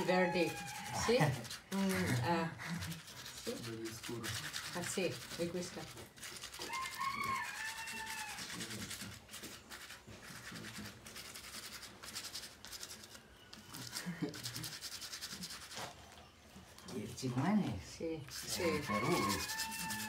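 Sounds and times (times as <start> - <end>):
hand rubbing paint on paper: 0.0 - 17.4, 18.2 - 20.0.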